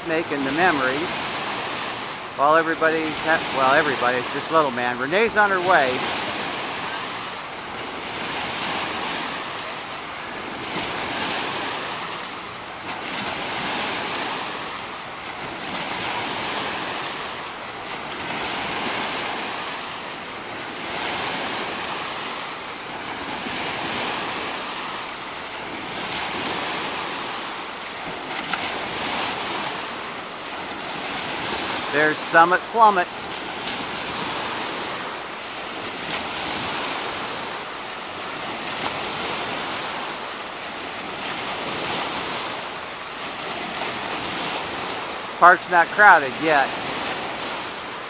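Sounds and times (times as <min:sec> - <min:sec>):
water washing in shallows: 0:00.0 - 0:48.0.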